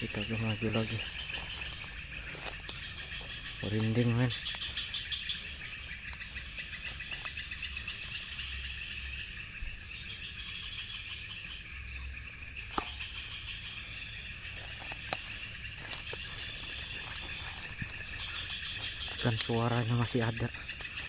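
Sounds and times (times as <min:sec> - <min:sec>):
fast pulsing insect trill: 0:00.0 - 0:21.0
night insects chirping: 0:00.0 - 0:21.0.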